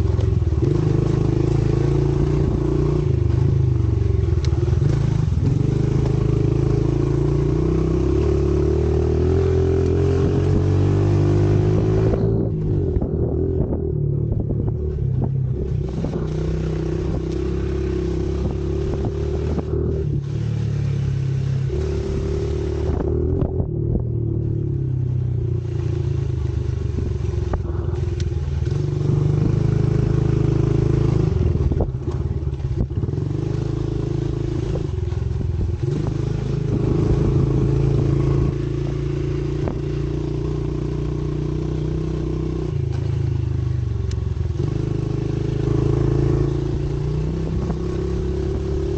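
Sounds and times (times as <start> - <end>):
pit bike engine revving: 0.0 - 24.8, 25.8 - 43.1.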